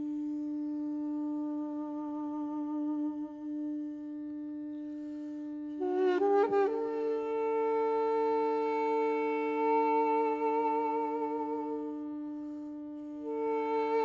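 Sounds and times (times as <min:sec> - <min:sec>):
woodwind melody with vibrato: 0:00.0 - 0:14.0.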